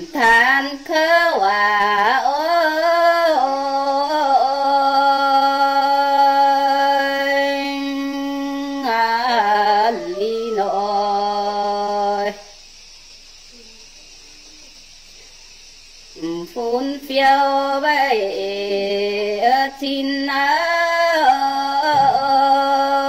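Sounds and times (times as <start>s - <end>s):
woman singing unaccompanied: 0.0s - 12.7s, 16.1s - 23.0s.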